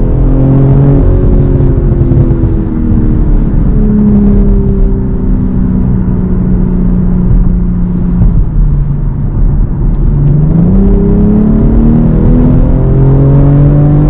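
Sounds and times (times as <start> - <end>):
car engine revving in cabin: 0.0 - 14.0.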